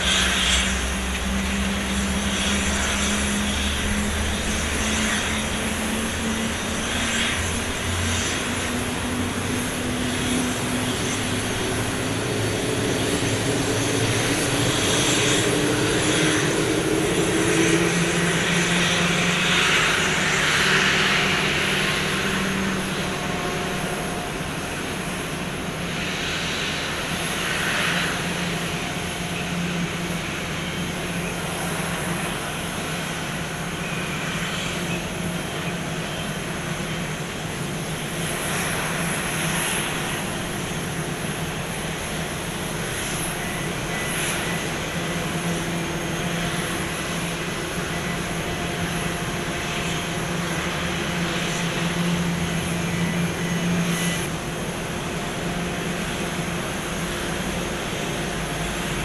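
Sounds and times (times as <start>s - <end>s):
jet engines humming: 0.0s - 59.0s.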